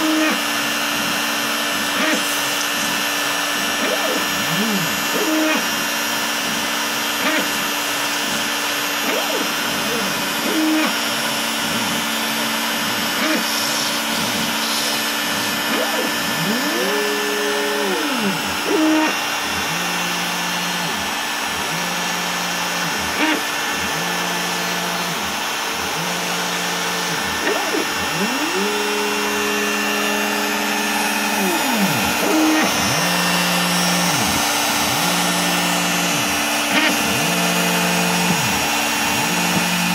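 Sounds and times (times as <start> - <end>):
router cutting foam board: 0.0 - 39.9
stepper motors humming: 0.0 - 39.9.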